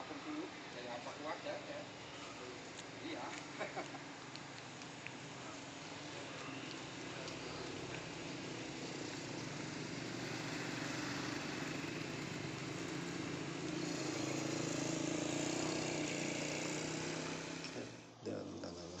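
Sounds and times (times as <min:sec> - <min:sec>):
road and wind noise: 0:00.0 - 0:18.2
small motorcycle engine running: 0:01.0 - 0:18.1.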